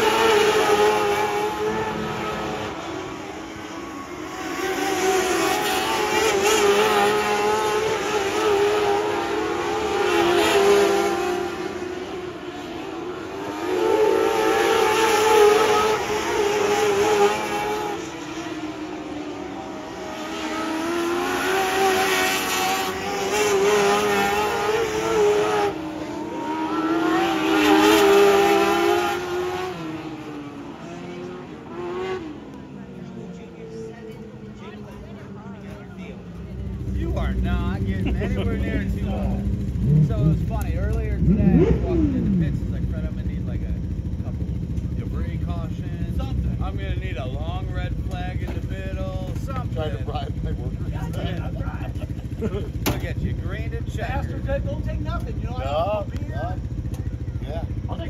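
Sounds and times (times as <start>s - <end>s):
race car engines at high revs: 0.0s - 58.0s.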